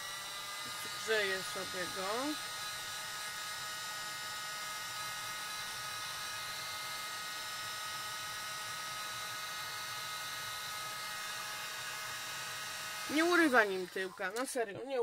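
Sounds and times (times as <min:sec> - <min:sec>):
heat tool fan whirring: 0:00.0 - 0:15.0.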